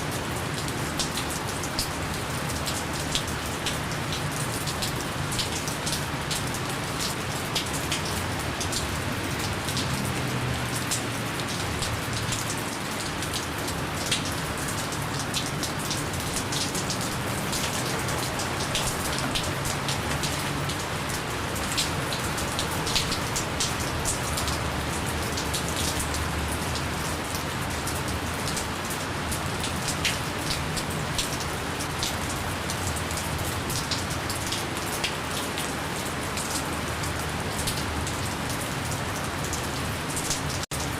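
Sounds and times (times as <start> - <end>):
light rain falling: 0.0 - 40.9.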